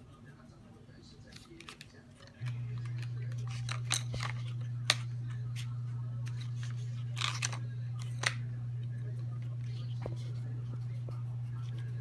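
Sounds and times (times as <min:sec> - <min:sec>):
pencils clicking and scraping on paper: 0:01.2 - 0:12.0
steady low hum: 0:02.0 - 0:12.0.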